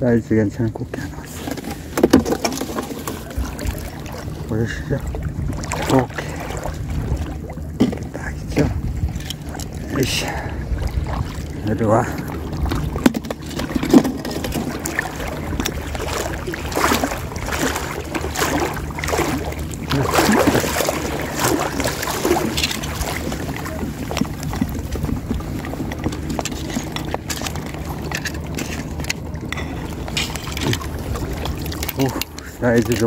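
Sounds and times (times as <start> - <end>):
steady low hum: 0.0 - 33.0
water sloshing around wading legs: 0.5 - 33.0.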